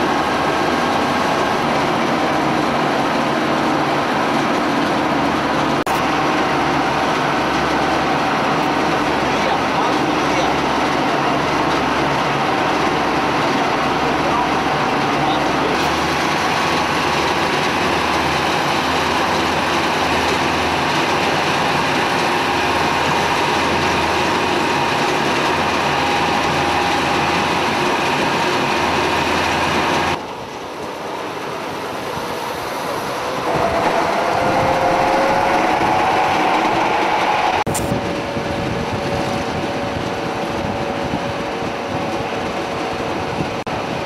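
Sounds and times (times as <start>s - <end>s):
armoured vehicle engine rumbling: 0.0s - 44.0s.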